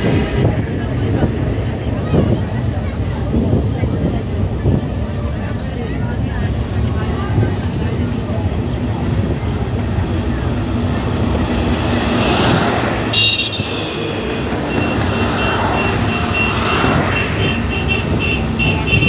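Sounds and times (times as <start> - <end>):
road vehicle rushing past: 0.0 - 5.1, 6.6 - 19.0
train rumbling across a bridge: 0.0 - 19.0.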